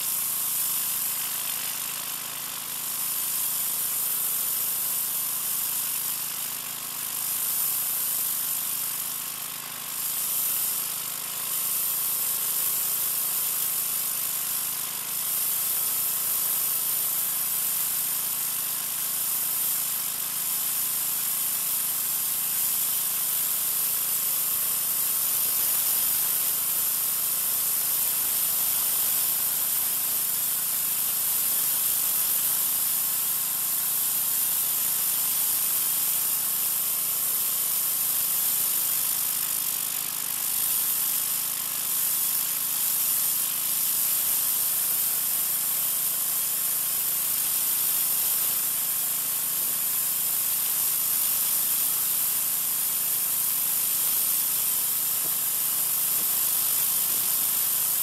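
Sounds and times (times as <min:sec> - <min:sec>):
pressure washer spray hissing: 0:09.9 - 0:58.0.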